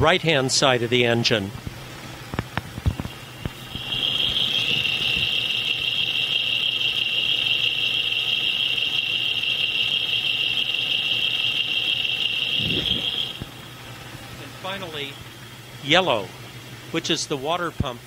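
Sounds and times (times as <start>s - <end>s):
engine high-pitched whine: 1.6s - 18.0s.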